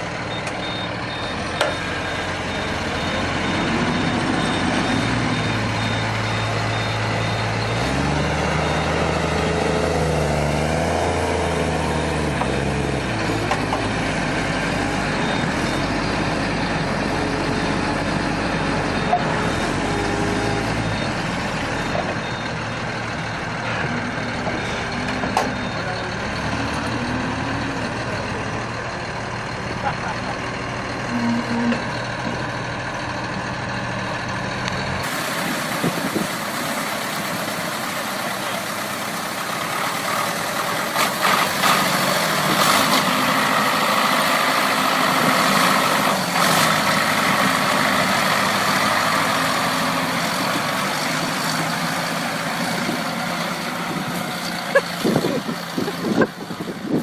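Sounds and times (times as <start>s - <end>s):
tractor engine revving: 0.0s - 57.0s.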